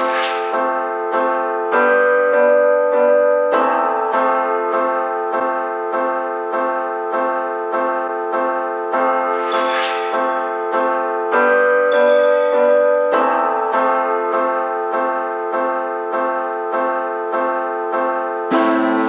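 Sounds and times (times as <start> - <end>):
piano repeating notes: 0.0 - 19.0.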